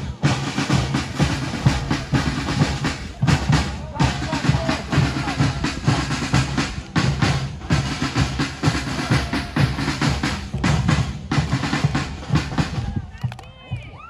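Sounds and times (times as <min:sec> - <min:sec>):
bass and snare drums beating: 0:00.0 - 0:14.0.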